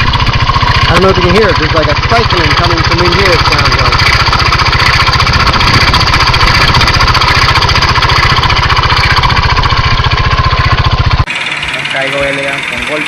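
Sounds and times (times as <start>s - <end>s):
engine running with knocking: 0.0s - 13.0s.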